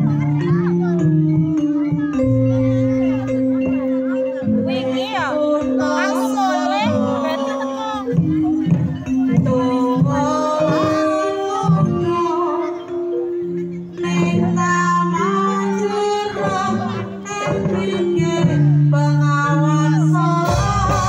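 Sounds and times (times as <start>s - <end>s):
traditional instruments playing: 0.0s - 21.0s
person singing: 4.0s - 21.0s.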